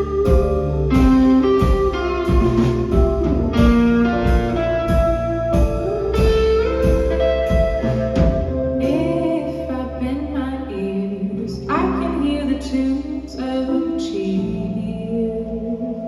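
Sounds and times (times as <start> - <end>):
live instrumental music: 0.0 - 16.0.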